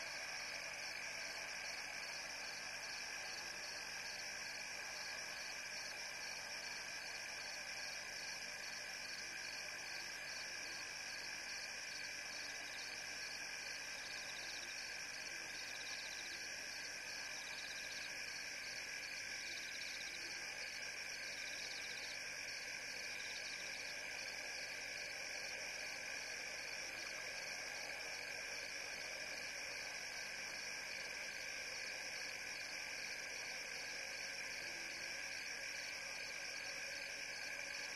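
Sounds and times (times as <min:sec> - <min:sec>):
frogs and insects trilling: 0:00.1 - 0:37.9.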